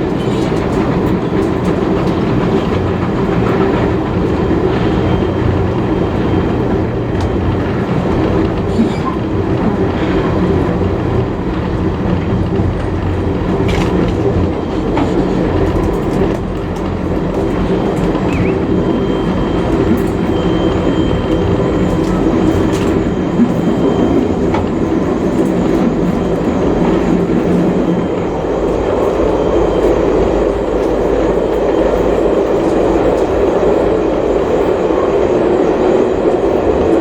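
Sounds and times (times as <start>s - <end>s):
rail joint clicks: 0.0s - 37.0s
train wheels rumbling on rails: 0.0s - 37.0s.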